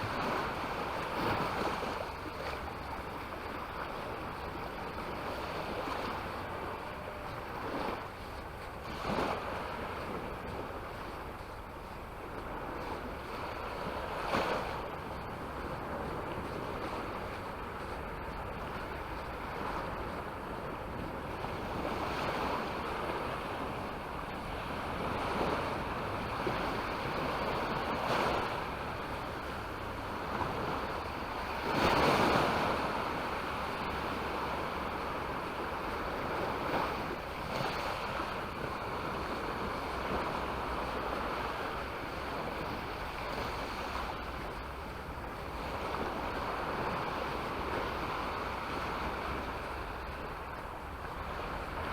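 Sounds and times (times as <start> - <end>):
sea waves washing onto shore: 0.0 - 51.9.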